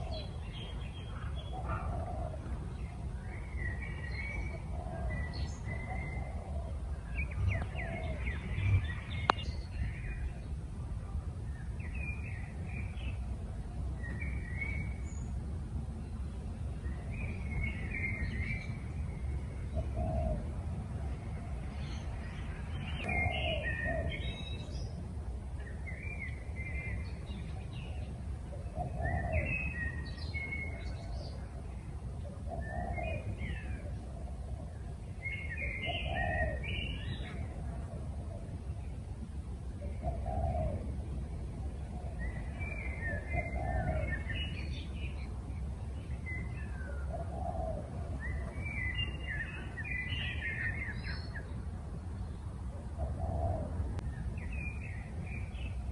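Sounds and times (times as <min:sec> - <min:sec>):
low bird call: 0:00.0 - 0:15.5, 0:16.1 - 0:51.6, 0:52.6 - 0:55.9
birds chirping: 0:00.0 - 0:55.9
steady low rumble: 0:00.0 - 0:55.9.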